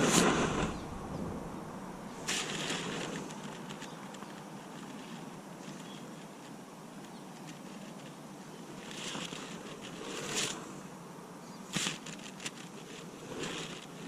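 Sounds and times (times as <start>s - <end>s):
rustling swishes: 0.0s - 6.5s, 7.4s - 11.0s, 11.7s - 14.0s
outdoor background noise: 0.0s - 14.0s.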